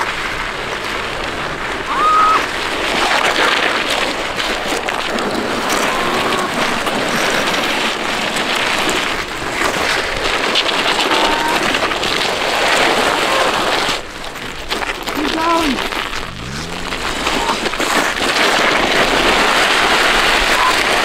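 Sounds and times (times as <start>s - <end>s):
fabric scraping along asphalt: 2.5s - 21.0s.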